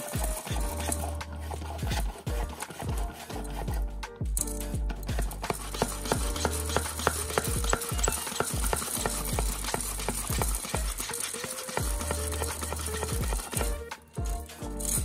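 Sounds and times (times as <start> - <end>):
background music with steady beat: 0.0 - 15.0
canister lid twisting and scraping: 0.0 - 15.0.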